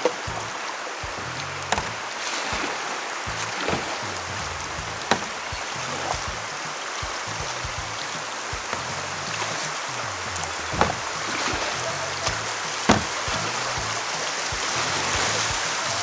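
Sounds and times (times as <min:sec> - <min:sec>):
creek water rushing: 0:00.0 - 0:16.0
faint music: 0:00.0 - 0:16.0
short knocks: 0:02.6 - 0:15.7.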